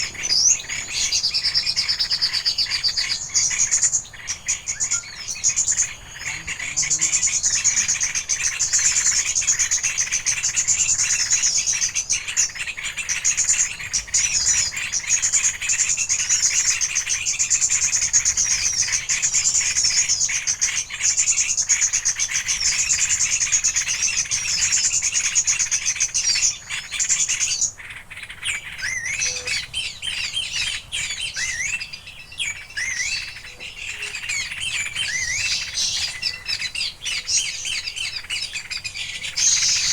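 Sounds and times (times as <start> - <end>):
small birds trilling: 0.0 - 39.9.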